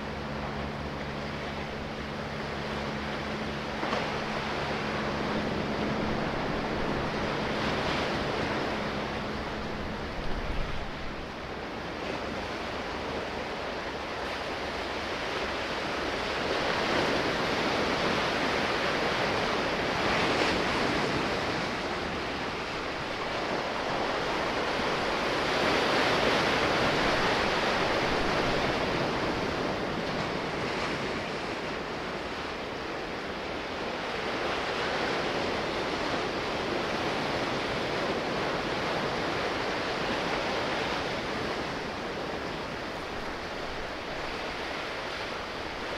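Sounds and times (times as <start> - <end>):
sea waves washing in: 0.0 - 45.9.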